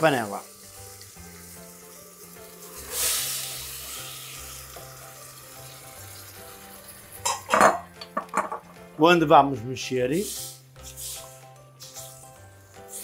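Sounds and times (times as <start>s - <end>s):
tomatoes sizzling in hot oil: 0.0s - 8.9s, 9.8s - 13.0s
background music with low notes: 0.0s - 13.0s.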